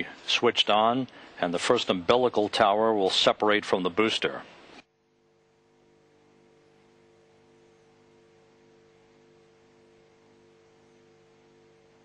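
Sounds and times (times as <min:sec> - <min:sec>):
faint steady hum with hiss: 0:00.0 - 0:12.0.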